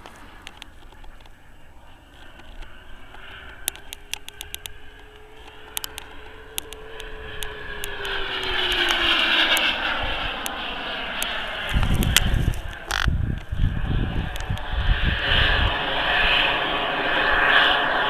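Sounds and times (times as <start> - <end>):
model jet turbine whine: 0.0 - 18.0
rushing roar of jet: 0.0 - 18.0.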